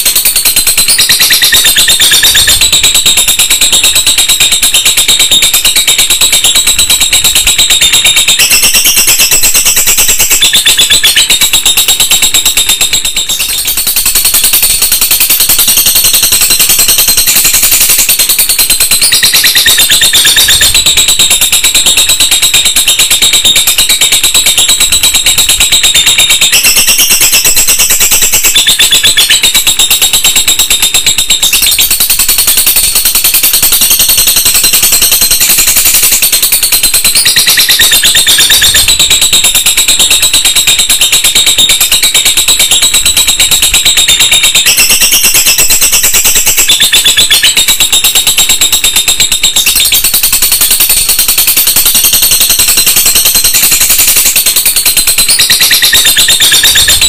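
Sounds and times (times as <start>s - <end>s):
bird high-pitched chattering trill: 0.0s - 57.0s.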